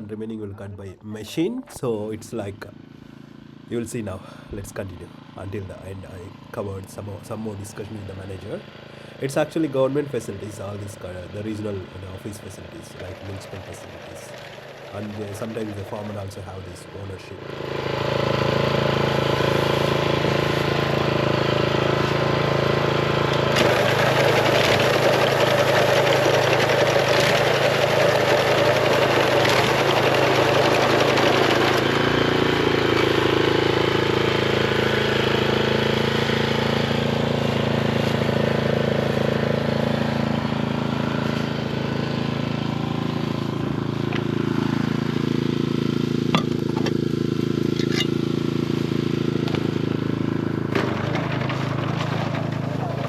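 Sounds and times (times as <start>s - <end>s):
harvesting machine engine running: 2.3s - 53.0s.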